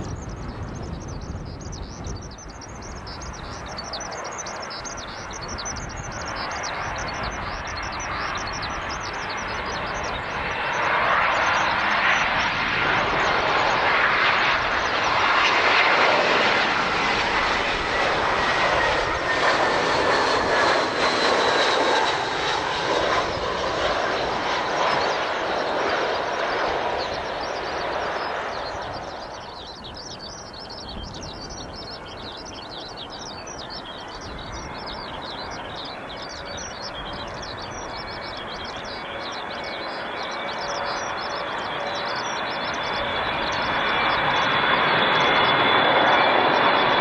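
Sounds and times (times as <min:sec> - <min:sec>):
jet airliner engines roaring: 0:00.0 - 0:47.0
whining jet engine tones: 0:00.0 - 0:47.0.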